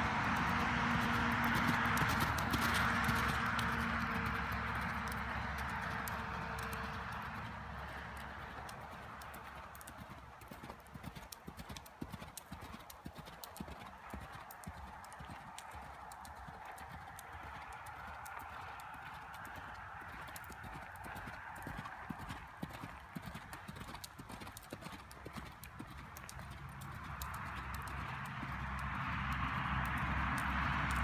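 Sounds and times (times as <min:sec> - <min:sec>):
horse hoofbeats on gravel: 0:00.0 - 0:31.0.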